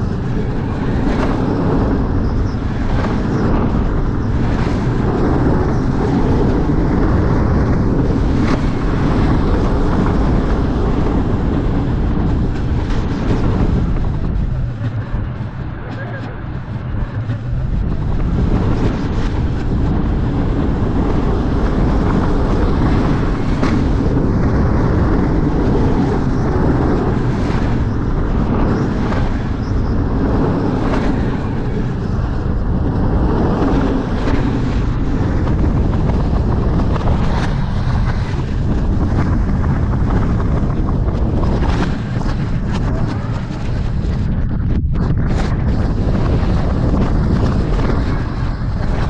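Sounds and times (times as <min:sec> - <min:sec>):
roller coaster wheels rumbling: 0:00.0 - 0:49.0
wind buffeting microphone: 0:00.0 - 0:49.0.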